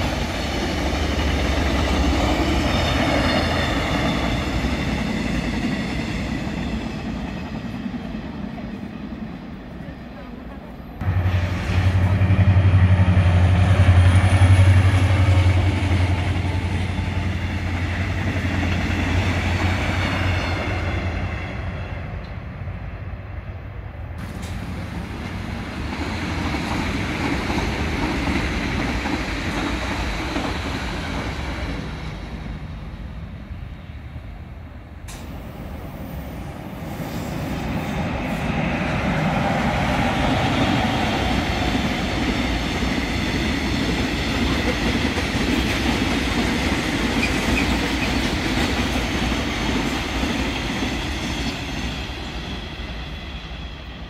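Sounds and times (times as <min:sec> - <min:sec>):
train rushing rumble: 0:00.0 - 0:54.0.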